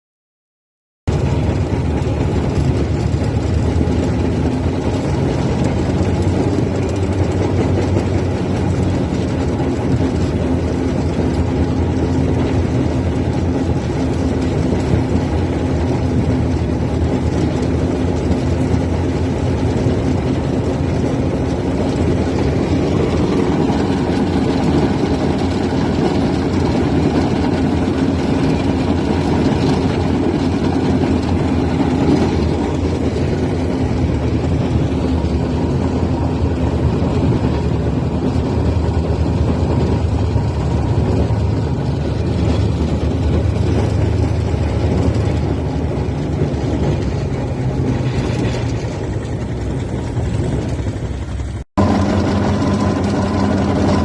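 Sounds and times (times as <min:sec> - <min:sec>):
steam engine running: 0:01.1 - 0:54.0.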